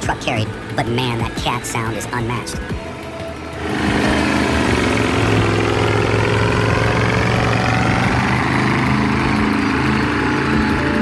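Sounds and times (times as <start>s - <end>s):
truck diesel engine under load: 0.0s - 11.0s.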